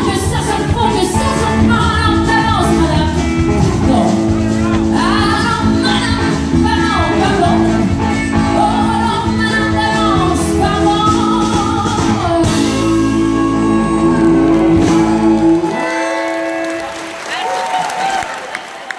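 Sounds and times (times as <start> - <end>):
woman singing: 0.0 - 15.3
bass guitar: 0.0 - 17.1
electric guitar: 0.0 - 18.2
drums: 0.0 - 18.7.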